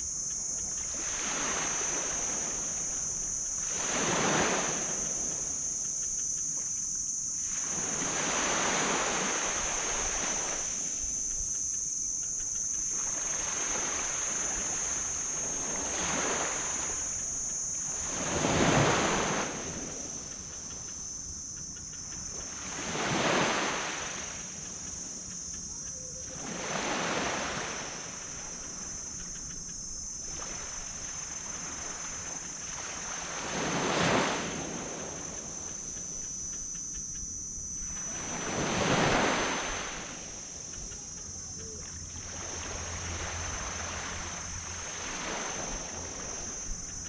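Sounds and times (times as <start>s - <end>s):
waves breaking on sand beach: 0.0s - 6.8s, 7.4s - 11.9s, 12.5s - 21.0s, 22.1s - 25.6s, 26.2s - 41.2s, 41.8s - 47.0s.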